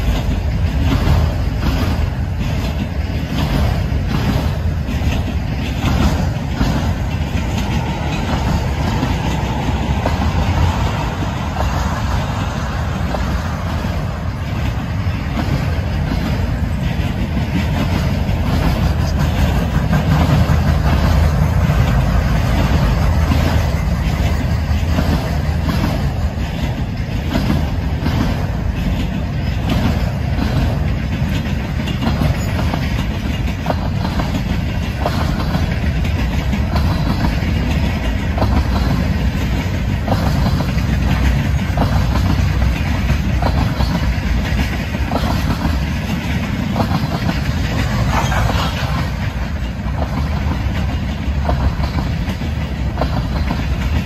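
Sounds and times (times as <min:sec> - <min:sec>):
train wheels rumbling on rail: 0:00.0 - 0:54.0
wheels clicking over rail joints: 0:00.0 - 0:54.0.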